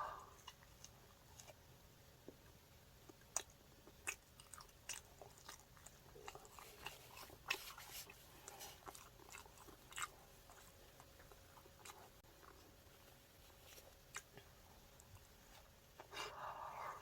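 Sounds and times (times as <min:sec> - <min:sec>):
person chewing: 0:00.0 - 0:01.6, 0:03.1 - 0:12.8, 0:13.5 - 0:17.0.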